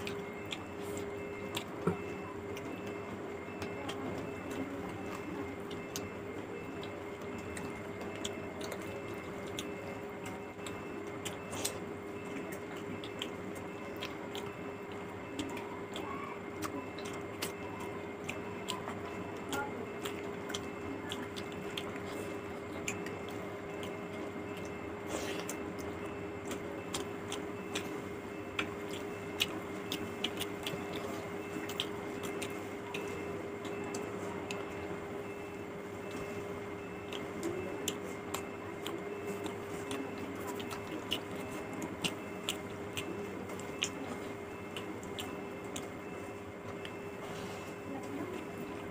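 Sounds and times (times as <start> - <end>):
mouth and lip clicks: 0.0 - 35.0, 36.0 - 48.9
chewing and wet squishing: 0.0 - 48.9
steady low hum: 0.0 - 48.9.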